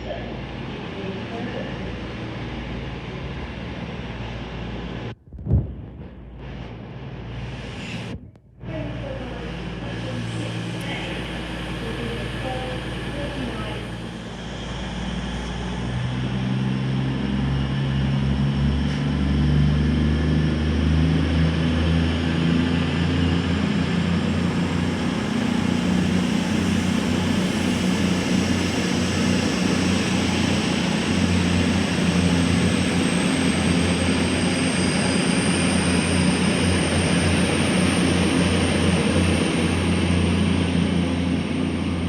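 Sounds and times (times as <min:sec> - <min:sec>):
diesel train engine drone: 0:00.0 - 0:42.0.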